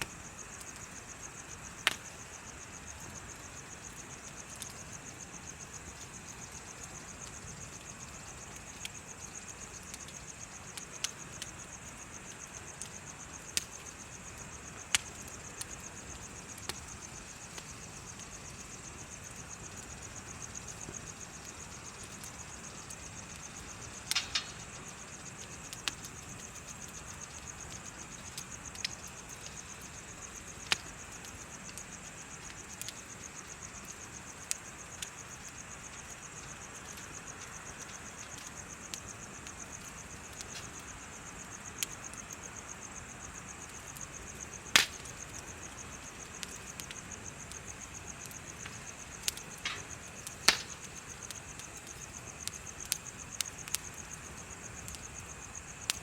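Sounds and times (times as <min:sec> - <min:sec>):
bonfire crackling and popping: 0:00.0 - 0:56.0
insects trilling: 0:00.0 - 0:56.0.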